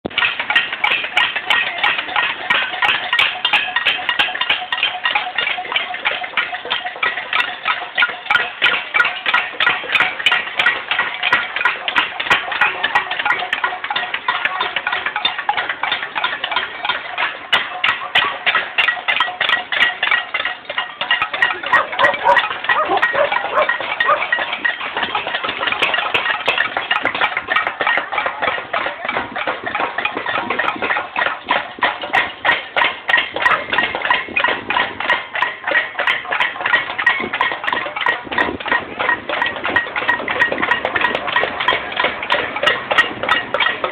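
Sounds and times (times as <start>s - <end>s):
people banging pots and pans: 0.0s - 43.9s.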